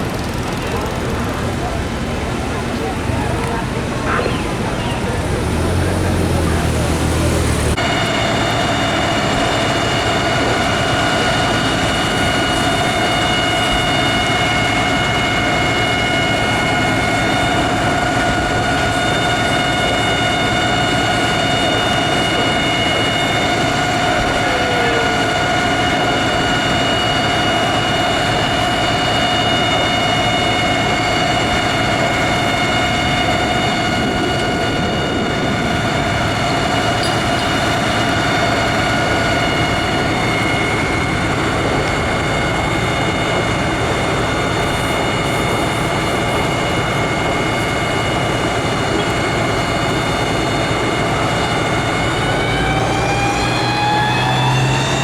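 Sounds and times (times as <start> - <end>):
fire engine pump whine: 0.0 - 55.0.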